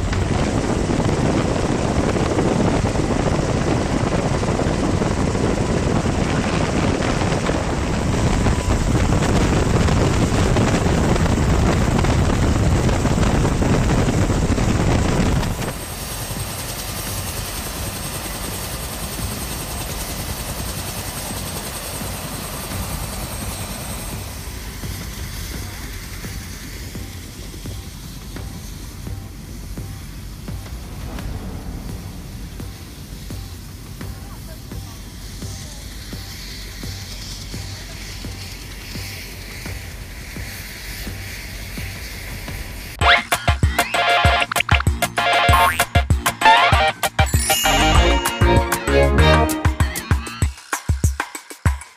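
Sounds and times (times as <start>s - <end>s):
helicopter rotor and engine noise: 0.0s - 51.0s.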